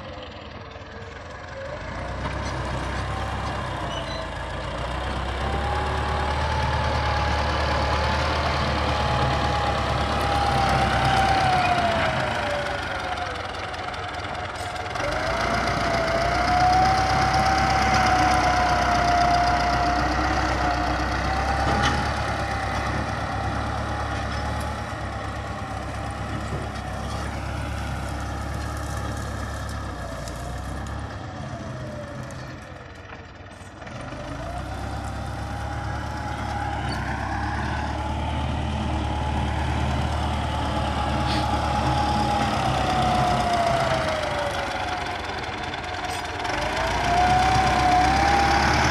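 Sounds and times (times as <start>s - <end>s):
tractor diesel engine rumbling: 0.0s - 48.9s.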